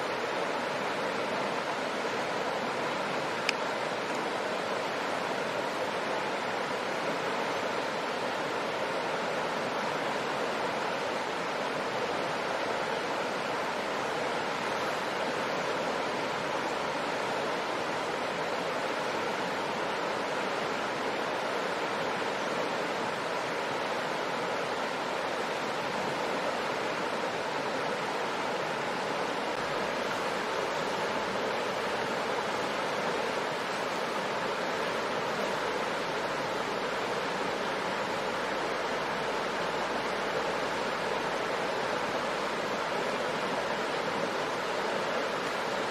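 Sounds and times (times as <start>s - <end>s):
river water running over rocks: 0.0s - 45.9s.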